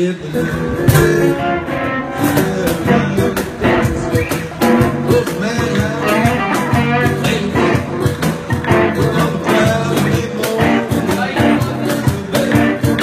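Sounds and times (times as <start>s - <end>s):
acoustic guitars strumming: 0.0s - 13.0s
electric guitar: 0.0s - 13.0s.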